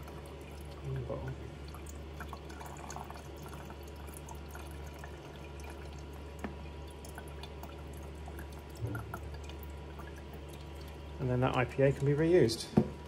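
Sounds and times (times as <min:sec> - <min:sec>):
liquid trickling and dripping: 0:00.0 - 0:13.0.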